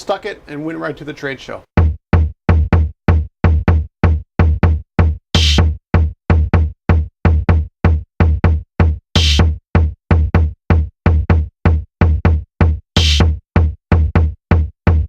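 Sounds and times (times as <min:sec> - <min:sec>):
electronic music with drum-machine beat: 0:01.8 - 0:15.0.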